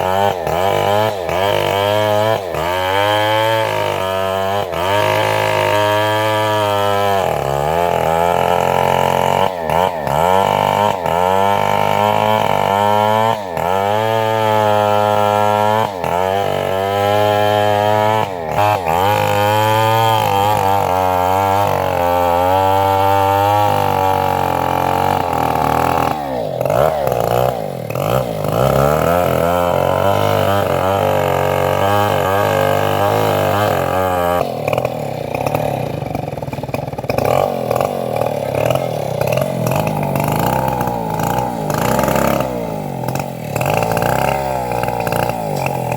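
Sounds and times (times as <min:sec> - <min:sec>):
engine-driven band sawmill running: 0:00.0 - 0:45.9.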